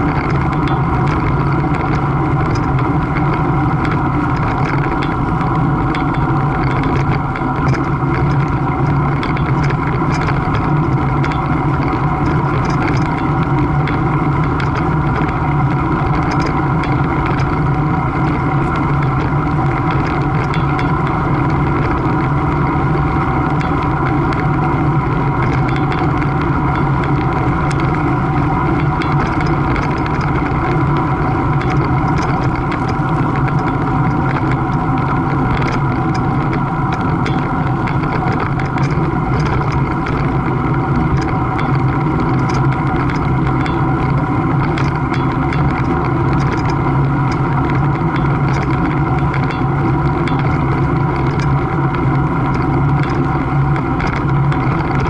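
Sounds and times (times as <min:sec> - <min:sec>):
engine hum: 0:00.0 - 0:55.0.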